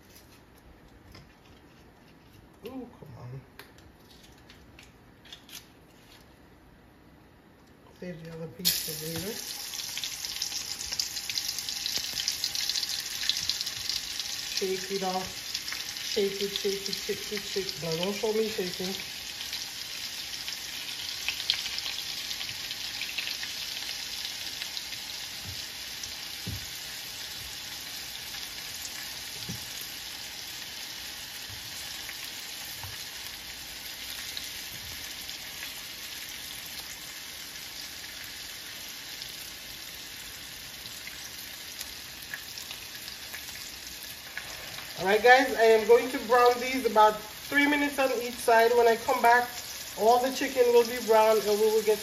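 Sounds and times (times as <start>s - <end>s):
chicken sizzling in oil: 8.6s - 52.0s.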